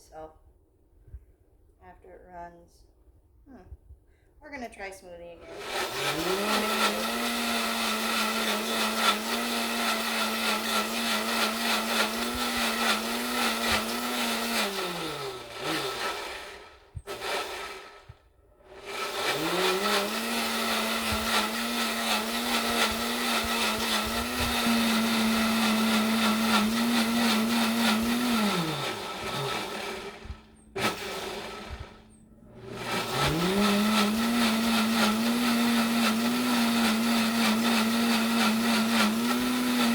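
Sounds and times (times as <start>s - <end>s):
blender motor running: 5.4s - 39.9s.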